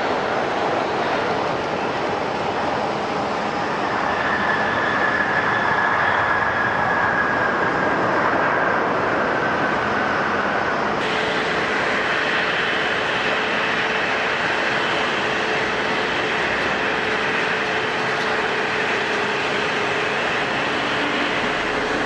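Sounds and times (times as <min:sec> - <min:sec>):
jet engine low steady tone: 0:00.0 - 0:22.0
jet engines with high whine: 0:00.0 - 0:22.0.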